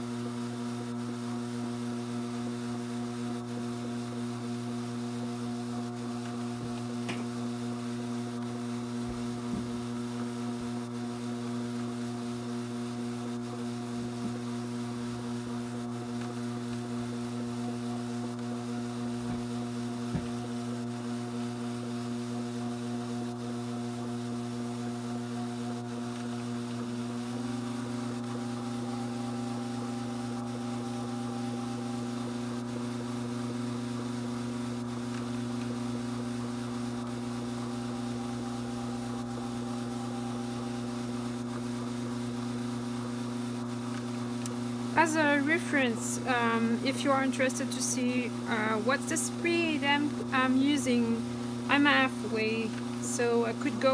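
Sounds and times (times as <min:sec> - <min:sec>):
drum carder motor humming: 0:00.0 - 0:53.9.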